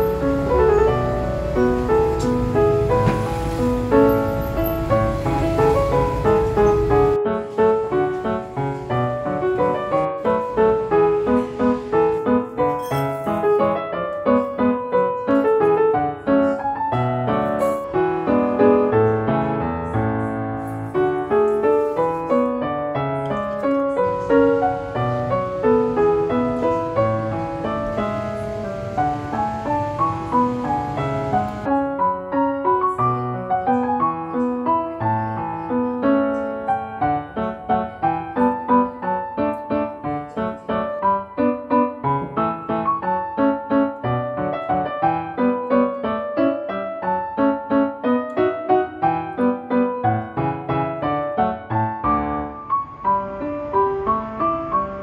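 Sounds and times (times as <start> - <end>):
light piano music: 0.0 - 55.0.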